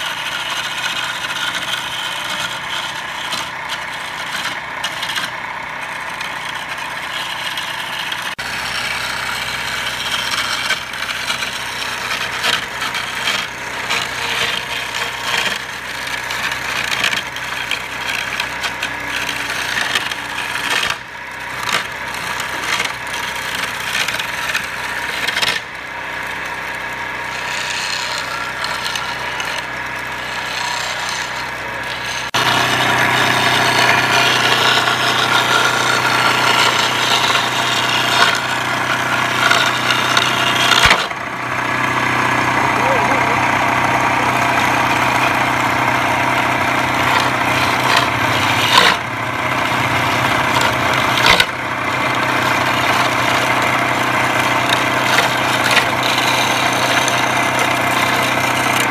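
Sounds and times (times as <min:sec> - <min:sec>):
lathe motor hum: 0:00.0 - 0:58.9
turning tool scraping wood: 0:00.0 - 0:58.9.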